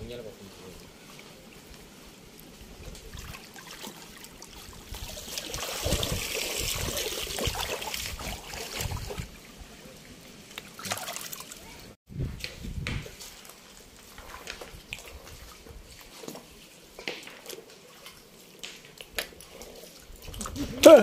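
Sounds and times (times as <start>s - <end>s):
water trickling and splashing: 0.0s - 12.0s, 12.6s - 21.0s.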